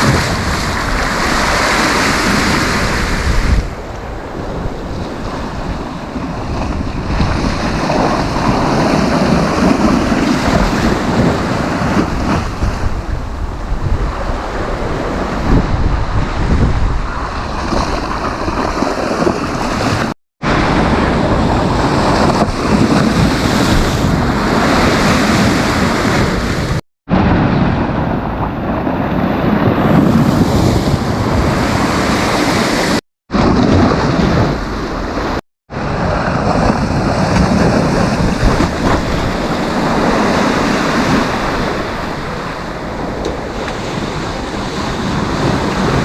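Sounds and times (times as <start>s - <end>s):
sea waves breaking on beach: 0.0s - 46.0s
wind buffeting microphone: 0.0s - 46.0s.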